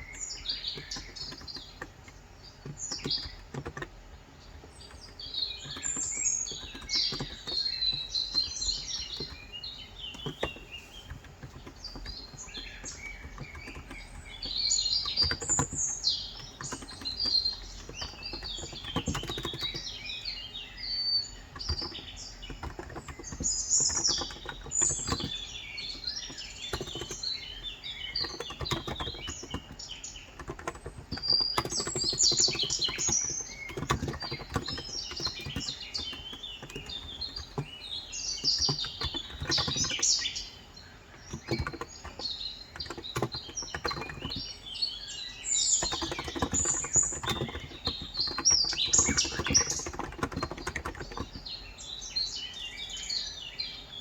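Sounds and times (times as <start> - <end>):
soft keyboard keystrokes: 0.0 - 51.6
small birds chirping: 0.0 - 54.0.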